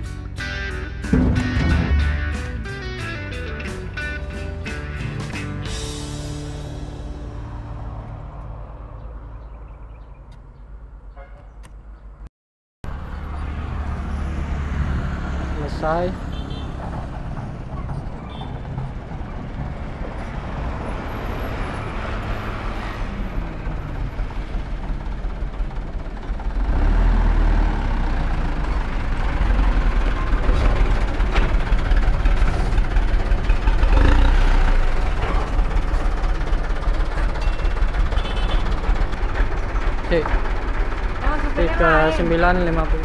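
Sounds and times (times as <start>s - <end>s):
truck diesel engine driving: 0.0s - 11.0s, 12.8s - 43.0s.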